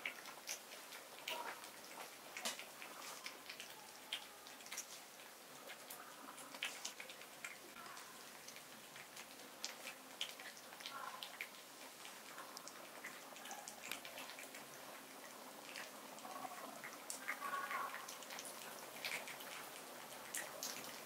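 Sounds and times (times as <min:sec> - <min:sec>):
cat licking and chewing: 0:00.0 - 0:21.0.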